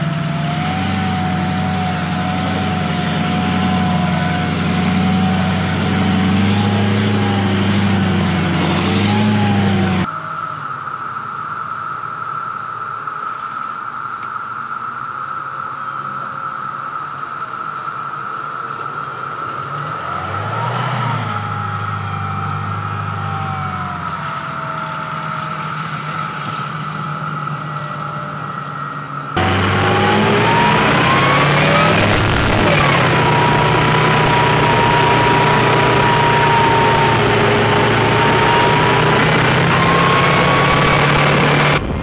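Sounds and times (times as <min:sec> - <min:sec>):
diesel engine running: 0:00.0 - 0:42.0
steady high whine: 0:00.0 - 0:42.0.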